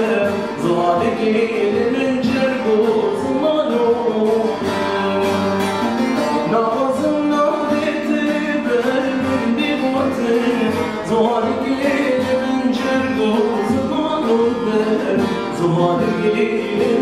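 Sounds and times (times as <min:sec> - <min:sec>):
man singing long held notes: 0:00.0 - 0:05.8, 0:06.4 - 0:17.0
plucked long-necked lute: 0:00.0 - 0:17.0.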